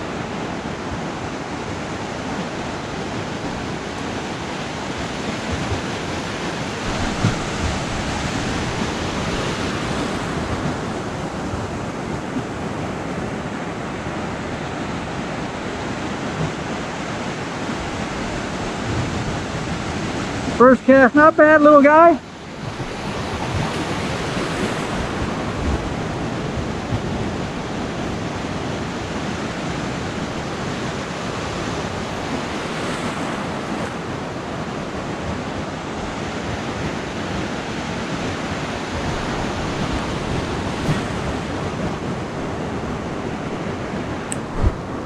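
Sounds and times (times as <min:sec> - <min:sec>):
ocean surf breaking on beach: 0:00.0 - 0:45.0.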